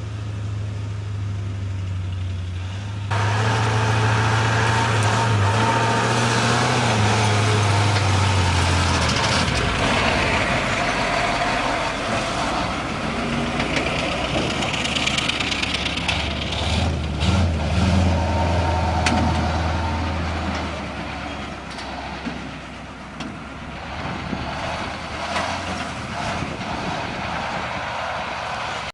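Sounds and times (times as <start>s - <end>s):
diesel truck engine droning: 0.0s - 28.9s
mechanical rumbling noise: 2.1s - 28.9s.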